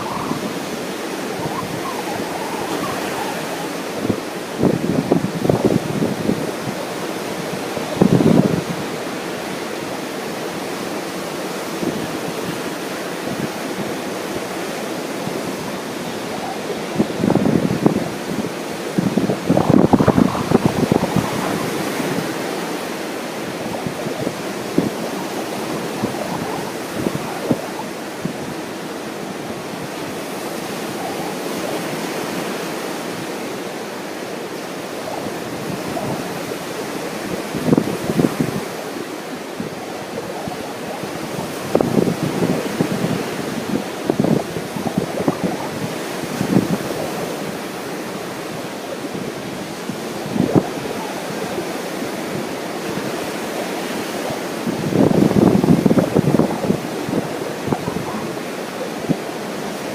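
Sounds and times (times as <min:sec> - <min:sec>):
ocean surf on beach: 0:00.0 - 0:59.9
wind buffeting microphone: 0:00.0 - 0:59.9.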